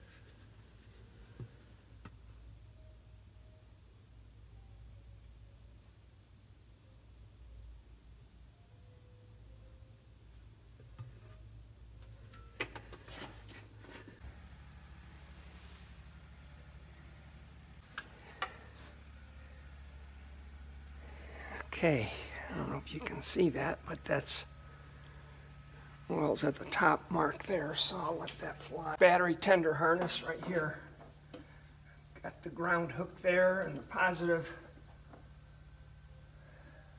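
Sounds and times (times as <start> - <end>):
faint insect chirping: 0.0 - 36.9
low steady hum: 0.0 - 36.9.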